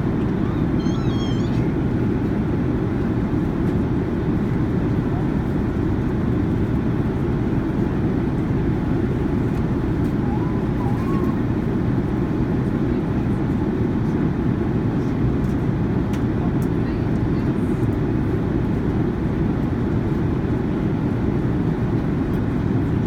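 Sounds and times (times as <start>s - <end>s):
airplane cabin noise: 0.0s - 23.0s.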